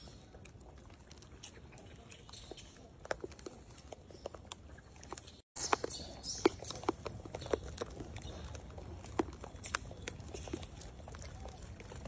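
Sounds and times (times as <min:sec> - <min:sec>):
monkeys chewing and cracking corn: 0:00.0 - 0:12.0.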